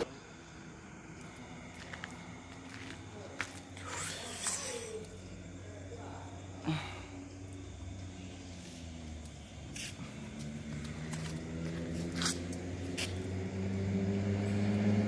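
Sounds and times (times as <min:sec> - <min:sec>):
truck engine humming: 0:00.0 - 0:14.8.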